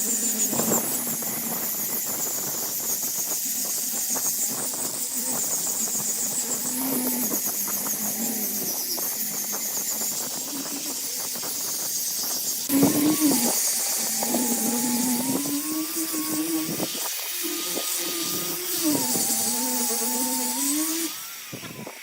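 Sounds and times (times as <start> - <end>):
wood lathe motor hum: 0.0 - 12.0, 12.6 - 22.0
hiss of wood shaving: 0.0 - 22.0.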